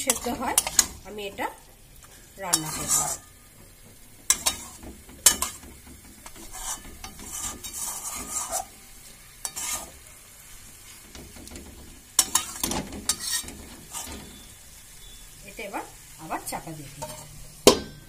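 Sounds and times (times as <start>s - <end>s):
spatula scraping a pan: 0.0s - 15.2s, 16.9s - 17.6s
masala sizzling: 0.0s - 18.0s.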